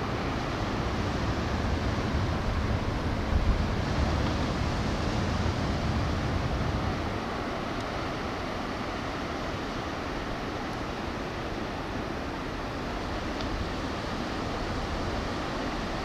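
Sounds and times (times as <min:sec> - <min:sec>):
surf washing: 0:00.0 - 0:16.0
wind rumbling on microphone: 0:00.0 - 0:16.0.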